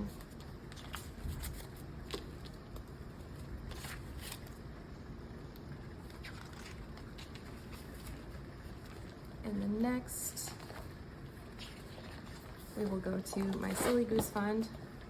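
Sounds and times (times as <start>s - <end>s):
paper money and envelopes handled: 0.0s - 4.7s, 6.0s - 15.0s.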